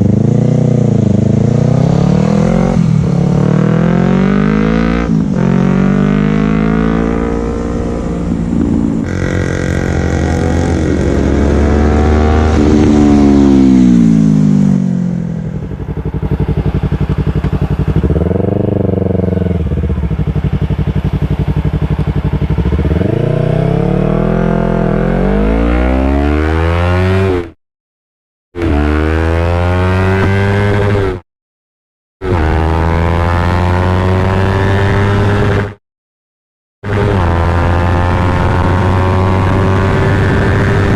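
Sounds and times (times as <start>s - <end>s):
motorcycle engine revving and idling: 0.0s - 27.6s, 28.6s - 31.2s, 32.2s - 35.8s, 36.8s - 40.9s.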